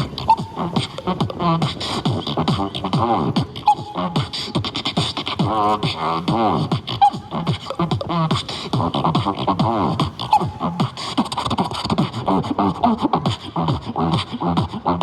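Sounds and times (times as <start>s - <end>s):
beatboxing drum sounds: 0.0s - 15.0s
vocal bass sweeps: 0.0s - 15.0s.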